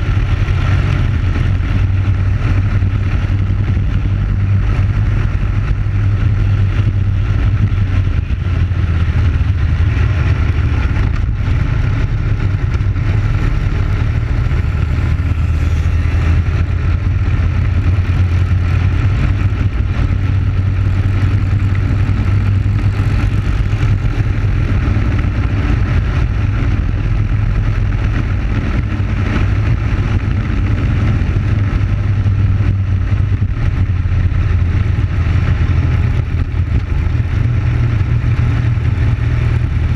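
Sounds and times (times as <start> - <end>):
kart engine at high revs: 0.0 - 39.9.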